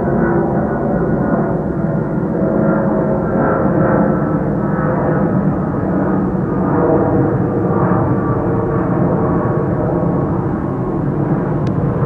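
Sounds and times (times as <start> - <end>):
airplane engines droning: 0.0 - 12.0.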